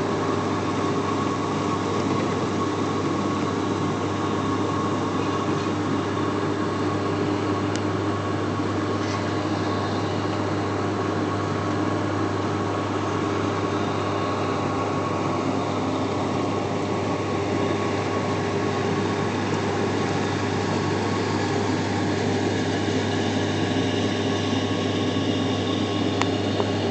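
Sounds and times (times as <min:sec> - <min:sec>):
aeration machine humming: 0:00.0 - 0:26.9.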